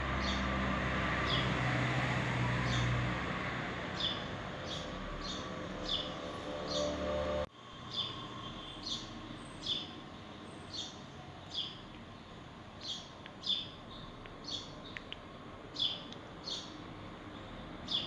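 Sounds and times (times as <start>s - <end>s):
bird chirping: 0.1s - 0.6s, 2.6s - 3.0s, 3.9s - 18.0s.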